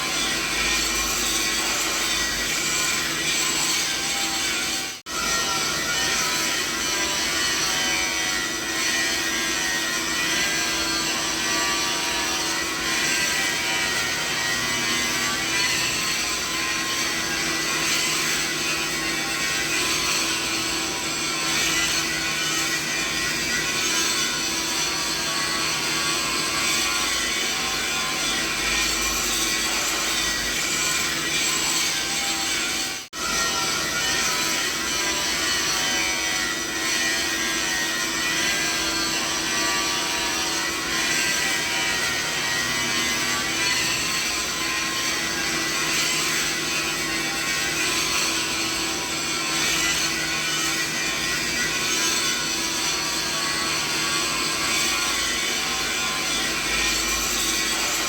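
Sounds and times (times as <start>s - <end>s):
mechanical hum: 0.0s - 58.0s.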